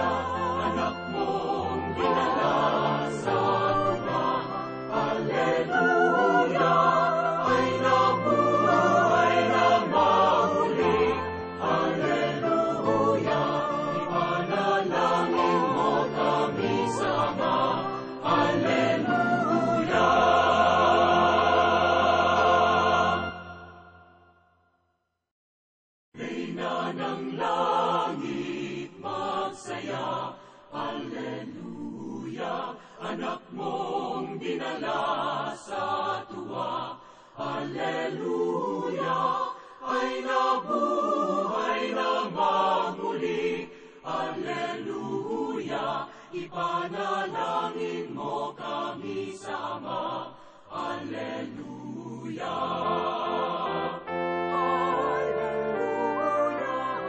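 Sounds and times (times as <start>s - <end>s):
choir singing a chanted hymn: 0.0s - 24.4s, 26.2s - 57.0s.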